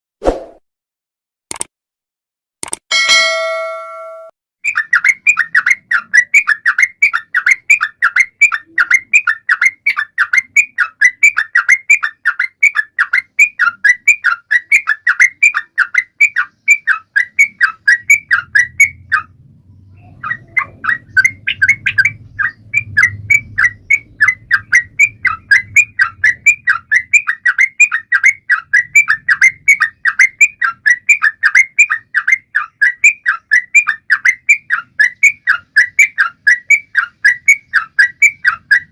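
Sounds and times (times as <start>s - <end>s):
bulbul chirping: 4.7s - 19.3s, 19.9s - 38.9s.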